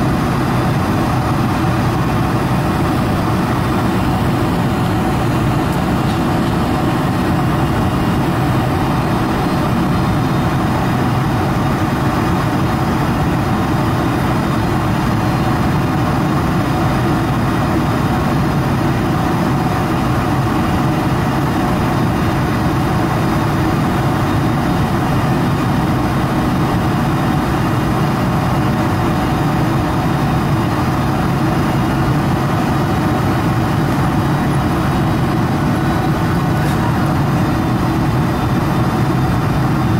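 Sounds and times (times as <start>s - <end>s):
jet engines droning: 0.0s - 39.9s
rush of airflow: 0.0s - 39.9s.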